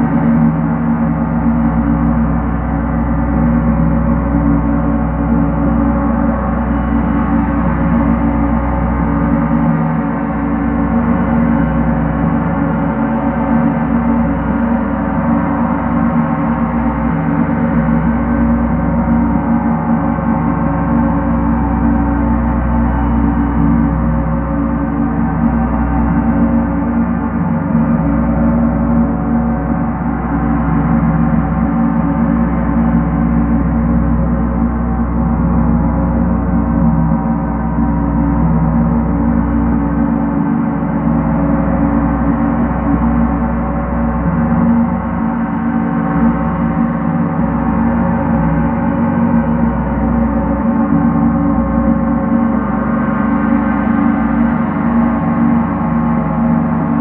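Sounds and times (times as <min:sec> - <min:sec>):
gong rolling with mallets: 0:10.2 - 0:57.0.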